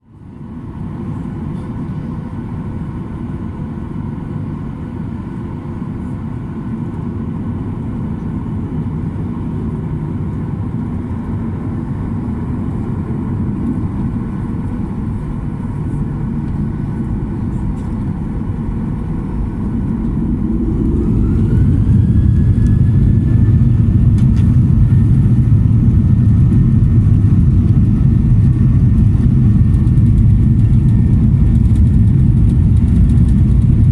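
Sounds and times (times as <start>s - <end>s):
jet engine rumble and whine: 0.0s - 33.9s.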